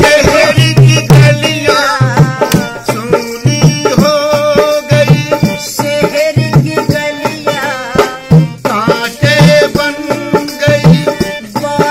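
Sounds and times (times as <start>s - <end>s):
dholak drum beat: 0.0s - 11.9s
harmonium melody: 0.0s - 11.9s
voices singing folk song: 0.0s - 11.9s.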